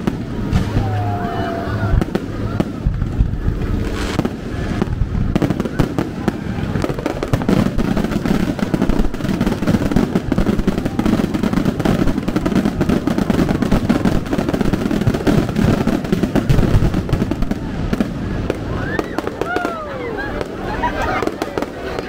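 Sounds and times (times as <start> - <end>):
fireworks crackling bangs: 0.0 - 22.0.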